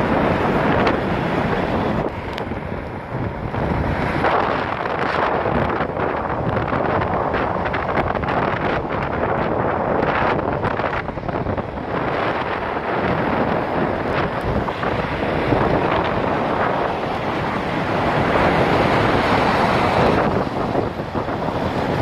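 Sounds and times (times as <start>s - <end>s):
tyres rushing on road: 0.0s - 22.0s
wind buffeting microphone: 0.0s - 22.0s.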